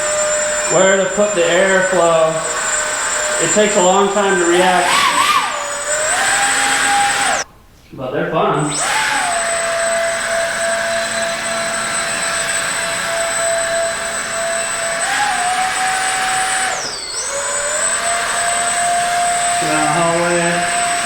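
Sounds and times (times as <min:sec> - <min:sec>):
small motor and propeller whine: 0:00.0 - 0:07.4, 0:08.7 - 0:21.0.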